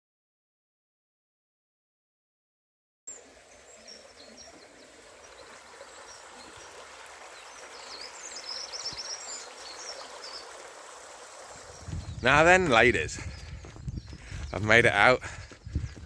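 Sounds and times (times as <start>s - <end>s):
small birds chirping: 3.1s - 16.0s
small stream running: 3.1s - 16.0s.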